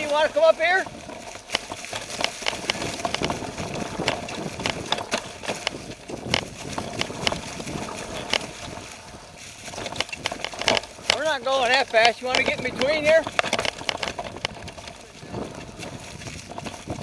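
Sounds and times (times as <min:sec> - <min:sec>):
bike knocking and rattling: 0:00.0 - 0:17.0
tyres rustling through leaves: 0:00.0 - 0:17.0.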